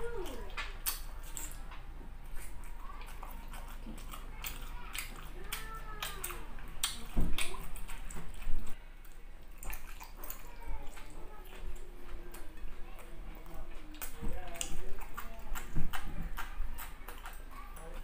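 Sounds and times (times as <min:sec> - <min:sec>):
wet mouth eating sounds: 0:00.0 - 0:18.0
lip smacks: 0:00.2 - 0:01.6, 0:02.3 - 0:17.6
sharp wet clicks: 0:00.5 - 0:01.6, 0:02.4 - 0:18.0.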